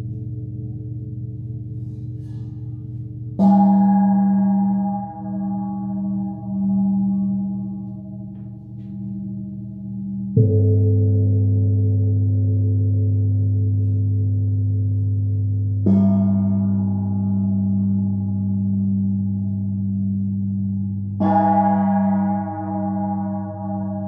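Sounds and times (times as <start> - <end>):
deep steady gong hum: 0.0 - 24.0.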